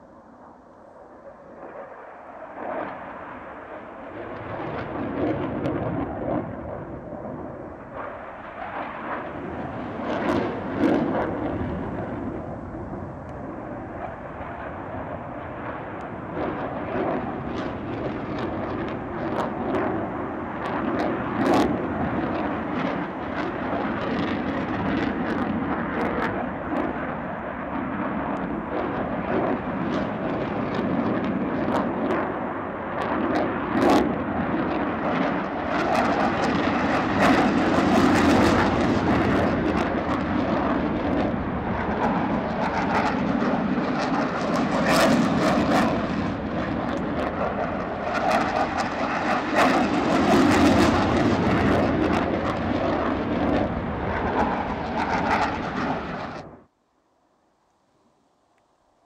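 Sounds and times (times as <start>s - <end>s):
jet engine rumbling and crackling: 0.0s - 56.7s.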